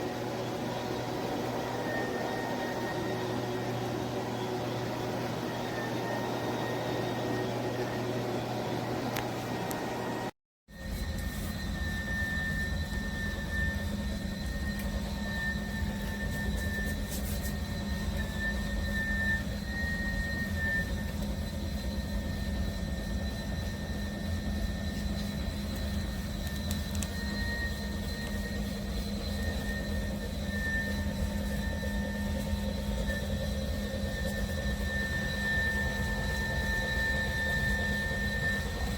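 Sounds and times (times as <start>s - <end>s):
electric mop motor whine: 0.0s - 38.9s.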